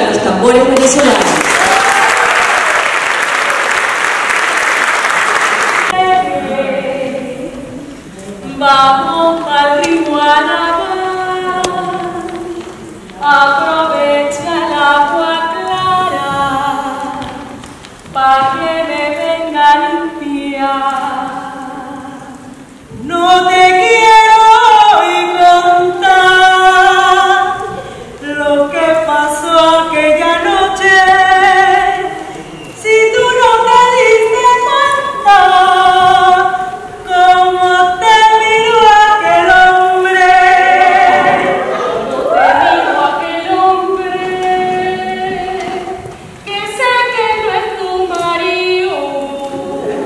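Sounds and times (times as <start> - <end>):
women singing a cappella: 5.9 - 50.0.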